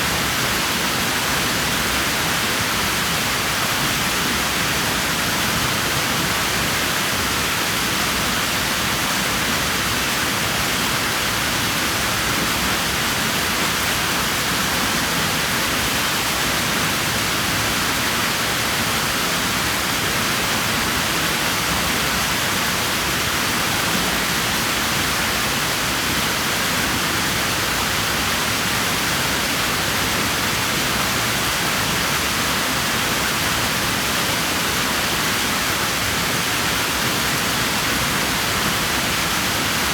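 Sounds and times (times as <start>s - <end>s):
pool water rushing: 0.0s - 39.9s.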